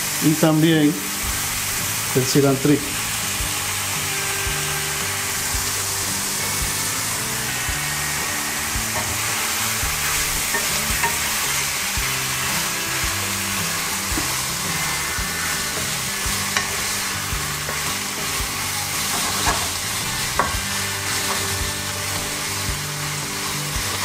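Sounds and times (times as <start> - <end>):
food sizzling in a frying pan: 0.0 - 24.0
wooden spoon scraping a pan: 2.9 - 22.7.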